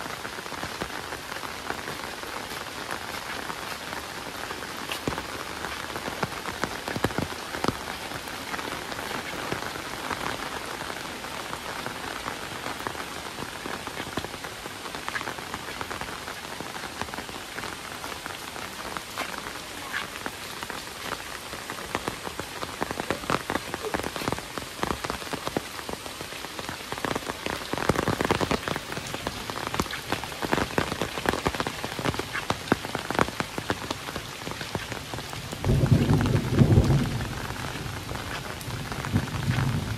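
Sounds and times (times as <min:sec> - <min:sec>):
heavy rain falling: 0:00.0 - 0:39.9
raindrops ticking: 0:00.0 - 0:39.9.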